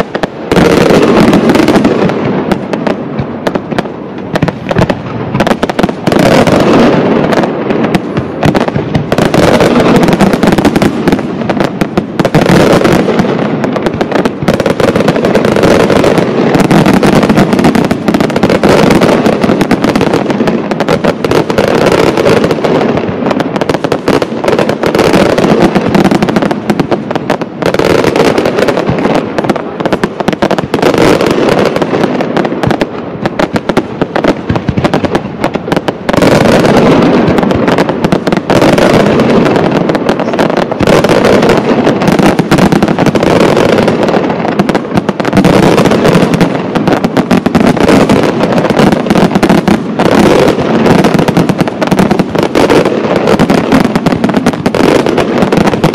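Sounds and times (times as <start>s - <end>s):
fireworks bursting and crackling: 0.0s - 55.9s.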